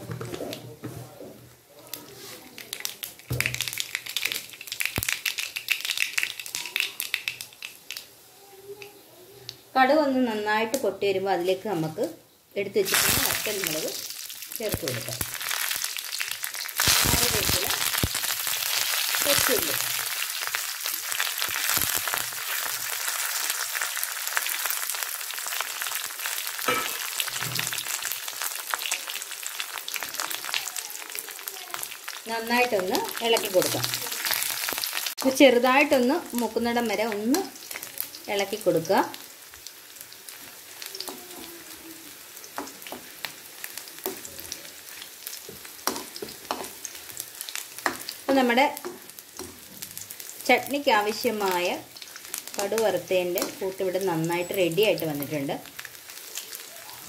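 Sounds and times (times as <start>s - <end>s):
mustard seeds popping in hot oil: 1.8s - 9.7s, 12.7s - 57.0s.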